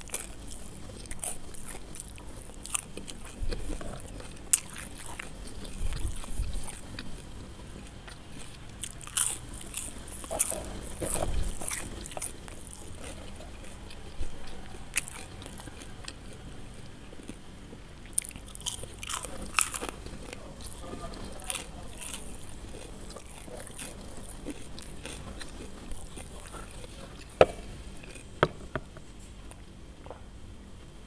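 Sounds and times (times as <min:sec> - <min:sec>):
chewing crunchy snacks: 0:00.0 - 0:29.6.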